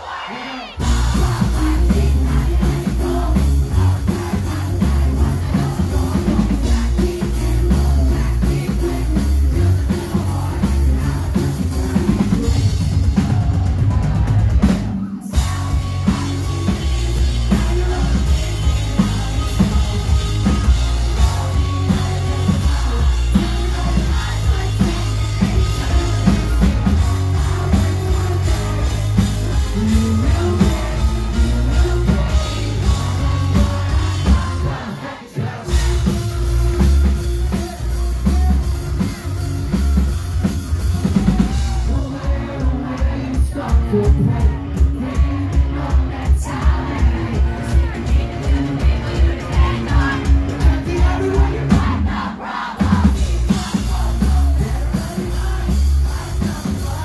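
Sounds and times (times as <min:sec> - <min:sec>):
person singing into microphone: 0:00.0 - 0:39.2, 0:41.2 - 0:52.1, 0:52.8 - 0:57.0
live rock band: 0:00.0 - 0:57.0.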